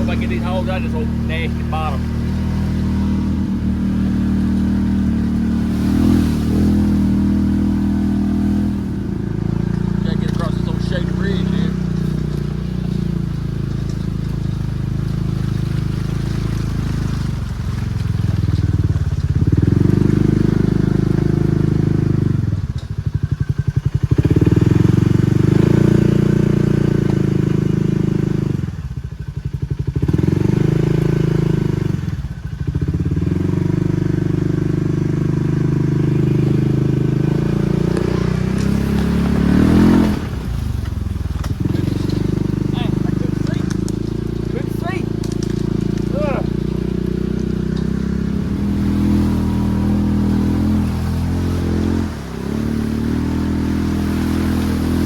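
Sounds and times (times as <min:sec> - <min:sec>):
rapid engine pulsing: 0:00.0 - 0:55.0
utility vehicle engine running: 0:00.0 - 0:55.0.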